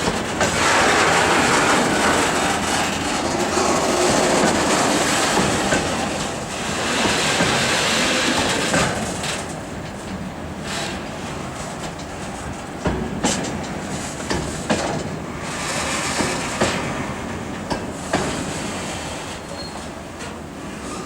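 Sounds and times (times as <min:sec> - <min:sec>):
freight train wagons rumbling: 0:00.0 - 0:21.0
wheels clacking on rail joints: 0:00.0 - 0:21.0.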